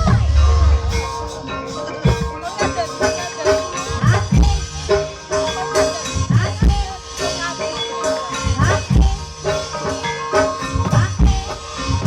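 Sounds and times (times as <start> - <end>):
hand drum strokes: 0.0 - 12.0
held ringing tone: 0.0 - 12.0
mallet-struck metal notes: 0.0 - 12.0.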